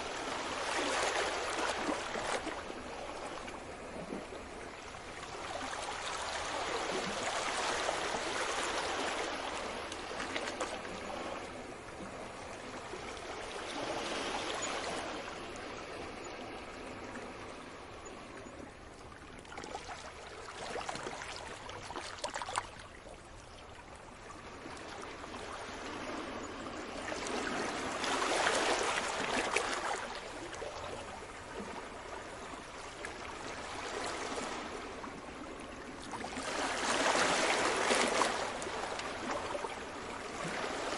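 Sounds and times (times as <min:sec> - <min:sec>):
sea waves washing ashore: 0:00.0 - 0:23.4, 0:24.1 - 0:40.9.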